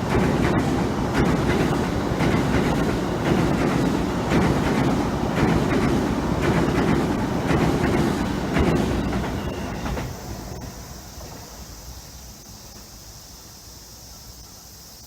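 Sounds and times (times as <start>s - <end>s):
electric train low rumble: 0.0s - 14.6s.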